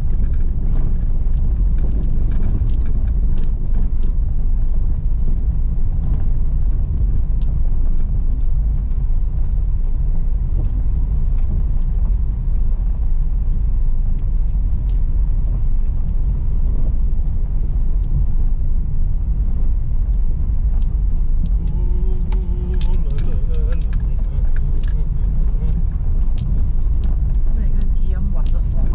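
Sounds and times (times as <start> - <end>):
car engine and tyres rumbling: 0.0 - 28.9
light clicks and ticks: 0.0 - 28.9.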